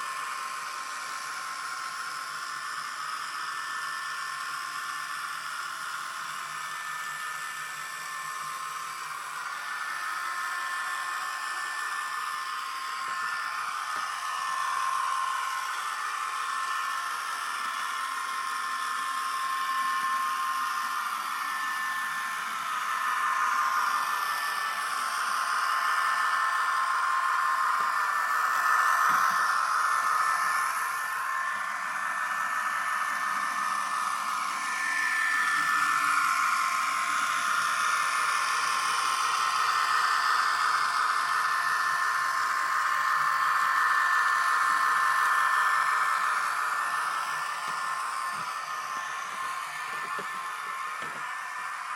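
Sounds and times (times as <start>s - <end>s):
model train engine sound whine: 0.0s - 51.9s.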